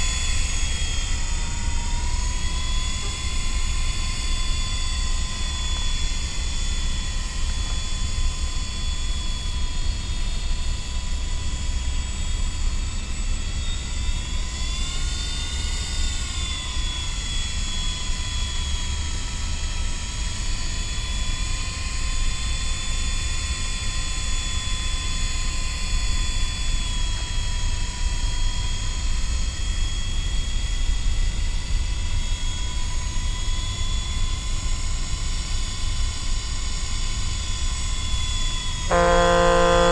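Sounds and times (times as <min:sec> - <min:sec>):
toy helicopter rotor whine: 0:00.0 - 0:39.9.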